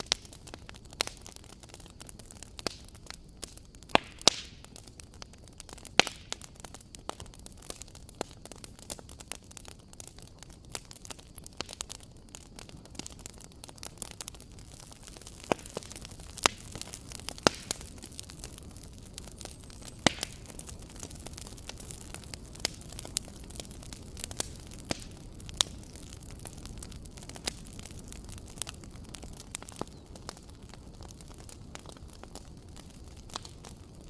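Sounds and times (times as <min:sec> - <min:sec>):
fire crackles and pops: 0:00.0 - 0:34.0
low rumble and hiss of flames: 0:00.0 - 0:34.0.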